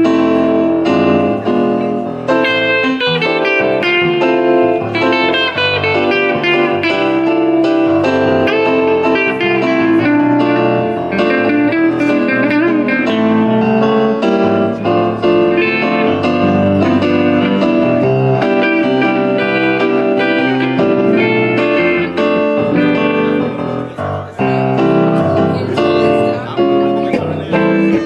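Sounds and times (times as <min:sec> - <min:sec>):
electric guitar: 0:00.0 - 0:28.0
electronic keyboard: 0:00.0 - 0:28.0.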